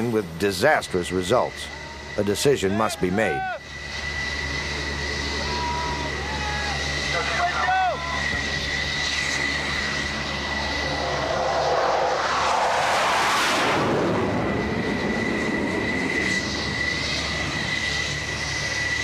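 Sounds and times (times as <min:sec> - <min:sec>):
jet aircraft passing overhead: 0:00.0 - 0:19.0.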